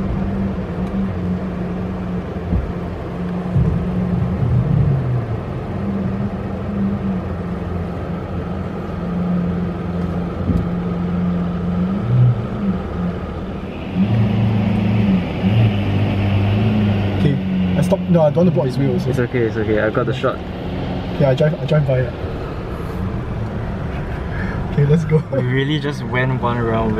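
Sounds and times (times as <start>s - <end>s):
car engine drone: 0.0s - 26.9s
road noise: 0.0s - 26.9s.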